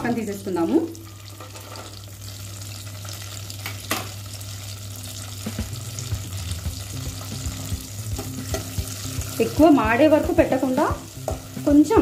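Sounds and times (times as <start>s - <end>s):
nuts sizzling in hot fat: 0.0s - 12.0s.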